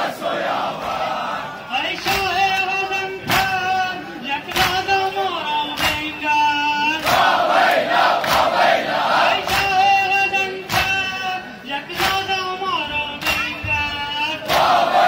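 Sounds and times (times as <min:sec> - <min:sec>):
crowd chanting: 0:00.0 - 0:12.0, 0:12.8 - 0:15.0.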